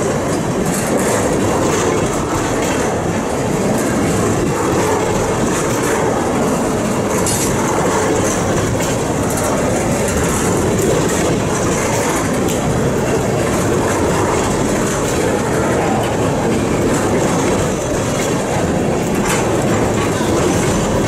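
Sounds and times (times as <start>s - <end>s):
train wheels rumbling on rails: 0.0s - 21.0s
wheels clicking over rail joints: 0.0s - 21.0s.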